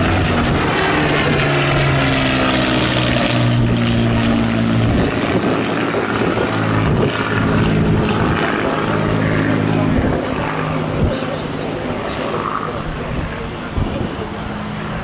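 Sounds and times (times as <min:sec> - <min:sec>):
propeller aircraft engine droning: 0:00.0 - 0:15.0.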